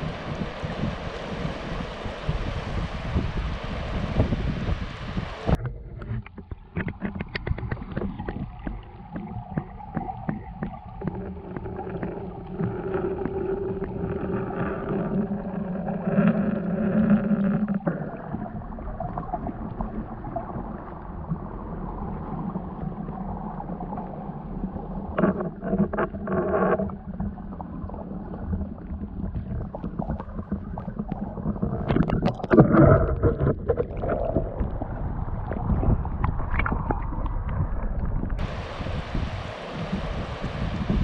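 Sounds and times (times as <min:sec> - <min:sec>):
muffled underwater churning: 0:00.0 - 0:41.0.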